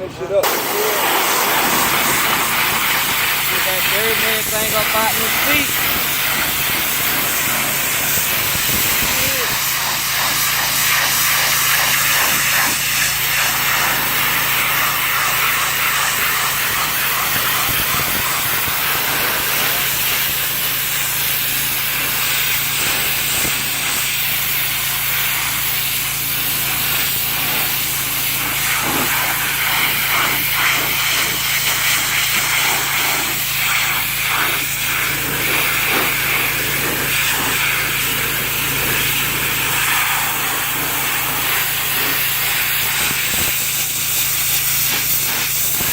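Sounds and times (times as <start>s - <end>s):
pressure washer spraying water: 0.0s - 45.9s.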